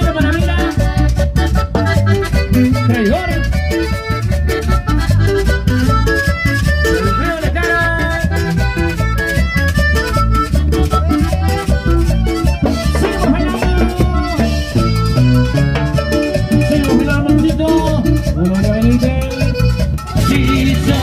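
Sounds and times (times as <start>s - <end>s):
accordion melody: 0.0s - 21.0s
acoustic guitar: 0.0s - 21.0s.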